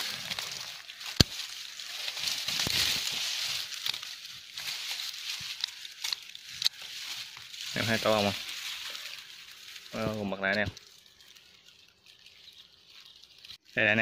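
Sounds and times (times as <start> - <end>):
twig snapping: 0.0 - 13.6
dry leaves and twigs rustling: 0.0 - 14.0.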